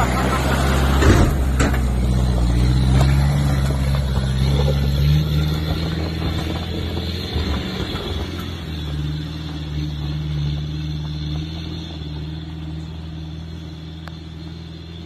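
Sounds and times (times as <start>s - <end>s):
vehicle engine climbing: 0.0s - 15.0s.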